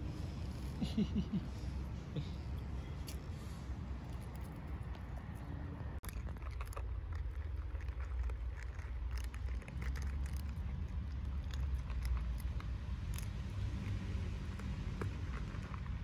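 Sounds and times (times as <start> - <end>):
cats crunching kibble: 0.0 - 16.0.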